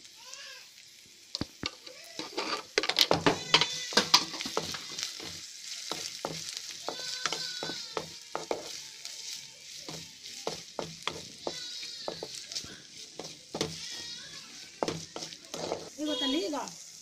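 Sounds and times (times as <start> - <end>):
food sizzling in oil: 0.0 - 17.0
spatula scraping and knocking pan: 2.2 - 16.3.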